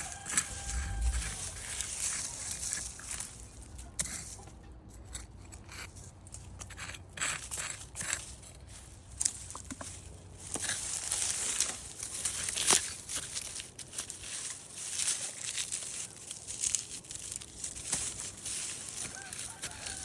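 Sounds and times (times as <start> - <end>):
onion skins crackling and rustling: 0.0 - 4.4, 7.2 - 20.0.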